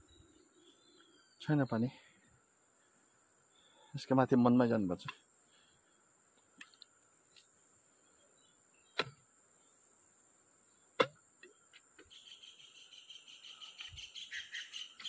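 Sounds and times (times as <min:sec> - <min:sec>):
insect chirping: 0:00.0 - 0:15.0
steady high hiss: 0:00.0 - 0:15.0.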